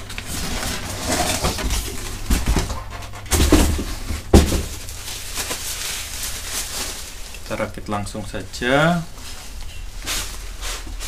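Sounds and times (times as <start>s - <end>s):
cardboard and packing rustling: 0.0s - 11.0s.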